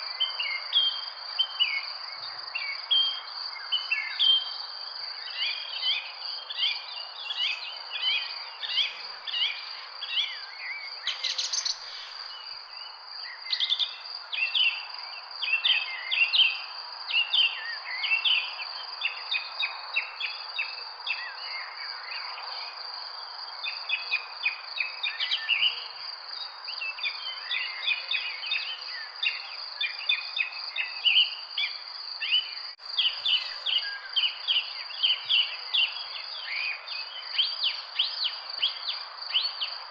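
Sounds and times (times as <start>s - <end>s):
small birds chirping: 0.0s - 16.6s, 23.2s - 39.9s.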